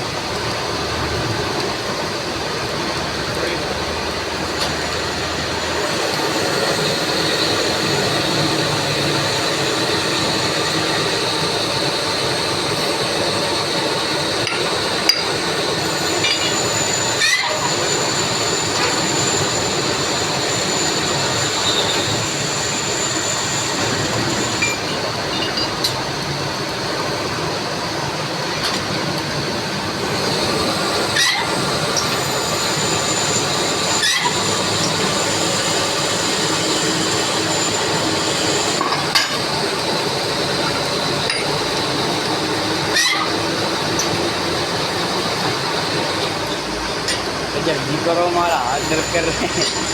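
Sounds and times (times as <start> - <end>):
metal lathe machining: 0.0 - 49.9
thin high whine: 3.3 - 25.9, 30.1 - 49.9.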